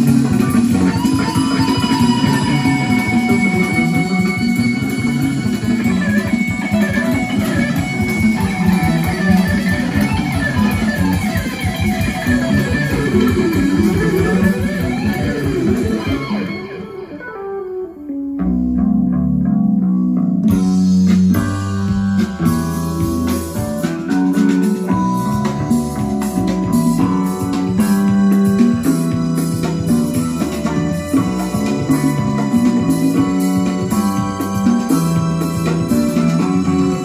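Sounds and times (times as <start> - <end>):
rock music with electric guitar: 0.0 - 37.0.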